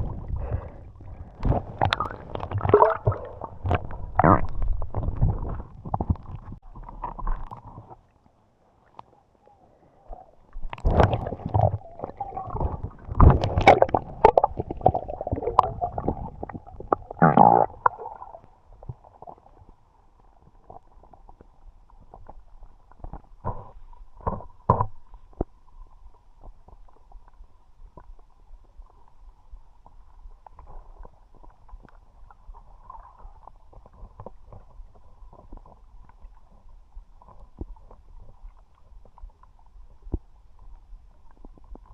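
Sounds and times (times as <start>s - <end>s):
underwater rumbling water: 0.0s - 8.2s, 10.1s - 41.9s
clicks and knocks underwater: 0.0s - 9.1s, 10.5s - 41.9s.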